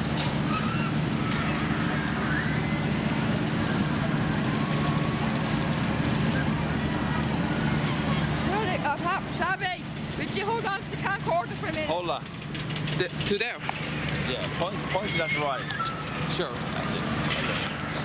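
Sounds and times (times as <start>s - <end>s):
machinery and generators humming: 0.0s - 18.0s.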